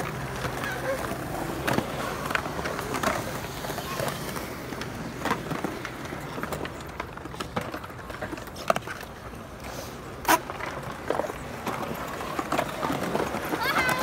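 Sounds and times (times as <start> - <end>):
skateboard clacks and knocks: 0.0 - 14.0
skateboard wheels rolling on concrete: 0.0 - 14.0.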